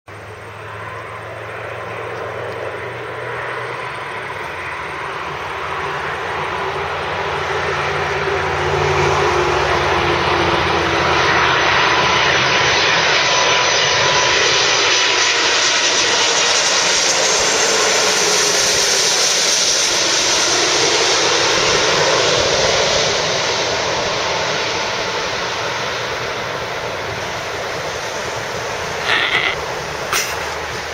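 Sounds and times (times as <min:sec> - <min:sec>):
jet engines rushing and whining: 0:00.1 - 0:30.9.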